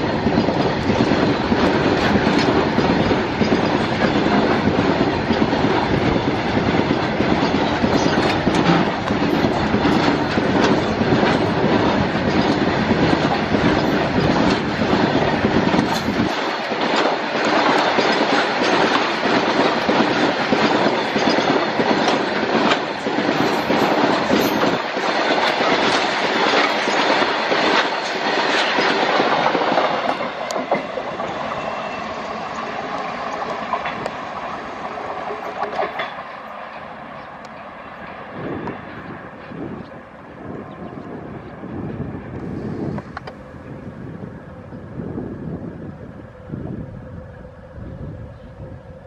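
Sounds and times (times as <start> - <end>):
train wheels clickety-clack: 0.0 - 43.4
deep train rumble: 0.0 - 49.0.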